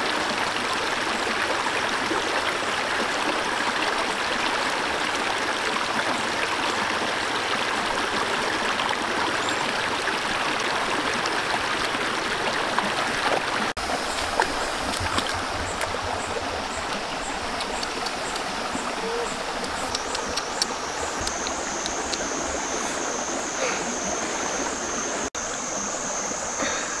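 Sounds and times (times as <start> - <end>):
stream running over rocks: 0.0 - 27.0.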